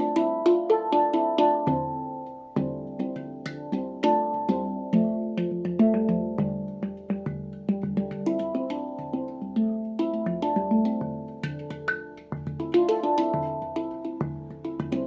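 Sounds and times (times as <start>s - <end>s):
handpan played by hand: 0.0s - 15.0s
sharp percussive taps: 0.0s - 15.0s.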